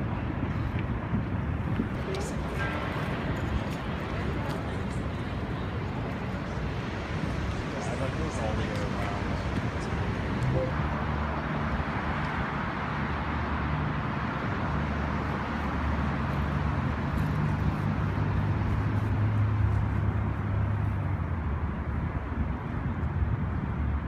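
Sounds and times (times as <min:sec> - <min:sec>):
cars passing: 0:00.0 - 0:24.0
vehicle engines running: 0:00.0 - 0:24.0.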